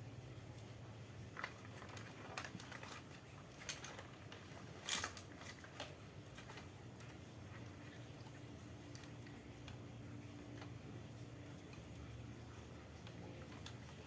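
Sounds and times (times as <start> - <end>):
low steady hum: 0.0 - 14.0
small clicks and scrapes: 0.5 - 11.0, 11.6 - 14.0.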